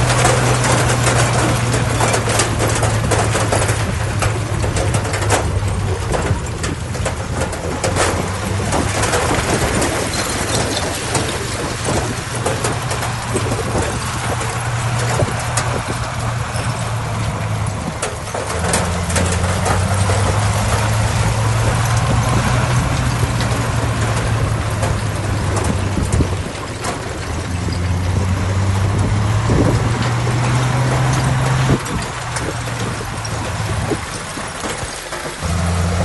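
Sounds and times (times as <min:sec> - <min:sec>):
heavy diesel engine running: 0:00.0 - 0:36.0
metal clanks: 0:00.0 - 0:36.0.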